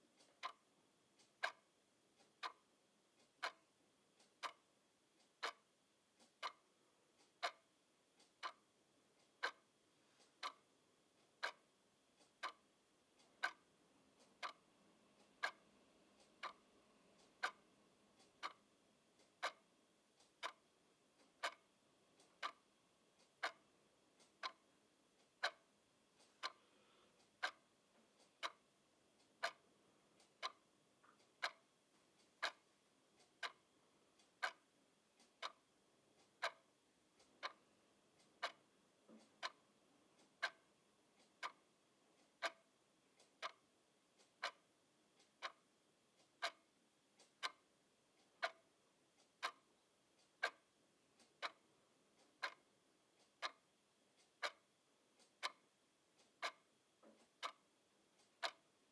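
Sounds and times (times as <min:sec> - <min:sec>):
clock ticking: 0:00.0 - 0:58.9.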